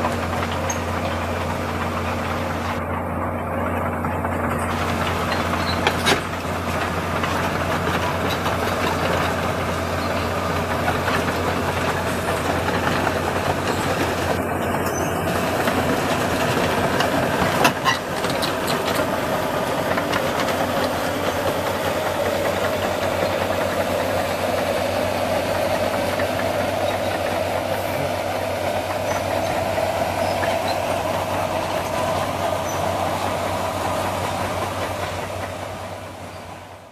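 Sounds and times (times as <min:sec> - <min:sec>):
diesel engine drone: 0:00.0 - 0:36.9
steel tracks clanking: 0:00.0 - 0:36.9.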